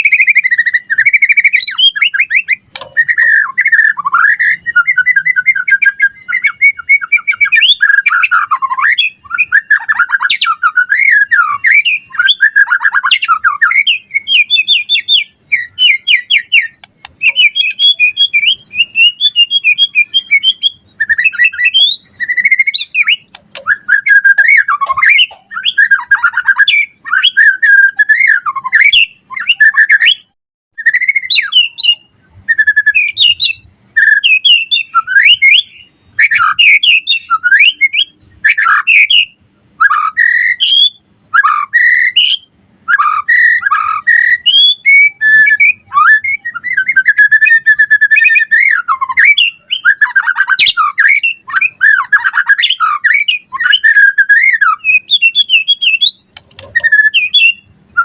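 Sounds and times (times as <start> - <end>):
songbird singing whistled phrases: 0.0 - 58.0.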